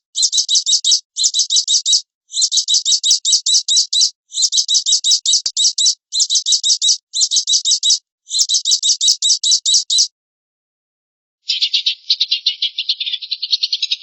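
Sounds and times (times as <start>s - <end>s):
songbird harsh chirps: 0.0s - 10.1s, 11.5s - 14.0s.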